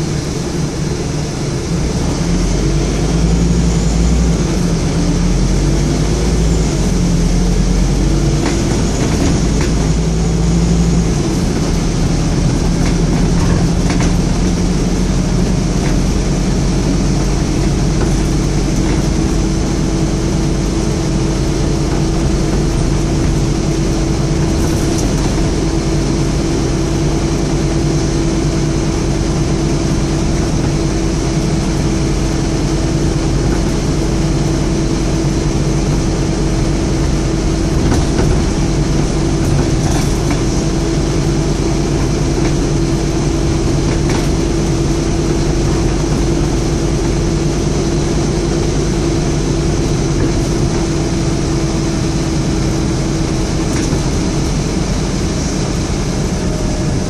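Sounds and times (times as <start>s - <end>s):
bus body noise: 0.0s - 57.0s
bus diesel engine rumble: 0.0s - 57.0s.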